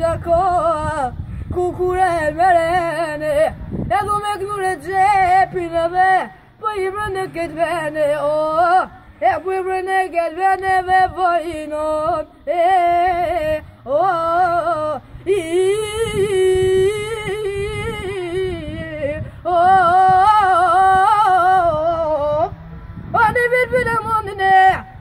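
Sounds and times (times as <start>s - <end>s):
boy singing unaccompanied: 0.0s - 22.5s, 23.1s - 25.0s.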